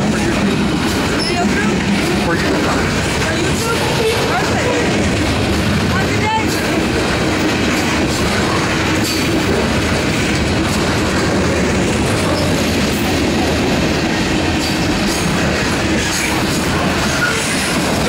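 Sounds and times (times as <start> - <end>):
freight train wheels clacking on rails: 0.0 - 18.0.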